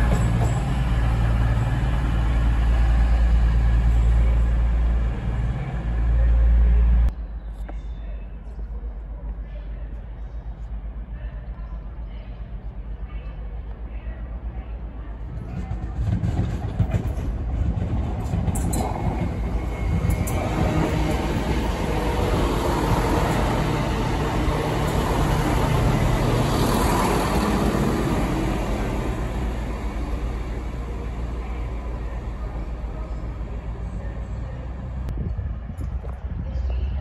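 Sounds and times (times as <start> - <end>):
diesel train passing: 0.0 - 7.4, 11.8 - 35.6.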